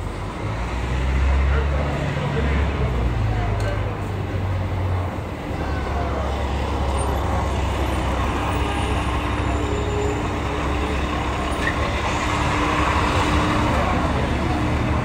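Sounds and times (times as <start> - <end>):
road noise: 0.0 - 15.0
vehicle engines rumbling: 0.0 - 15.0.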